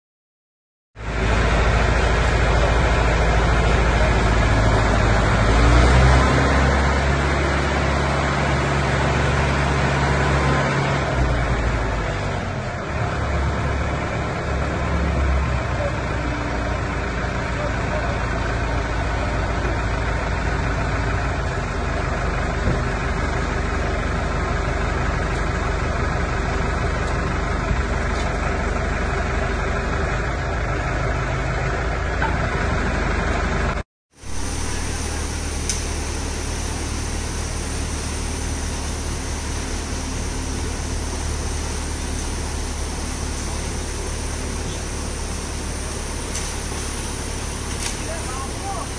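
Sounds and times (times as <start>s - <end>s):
concrete mixer truck engine drone: 1.0s - 48.9s
machine engine running: 1.0s - 48.9s.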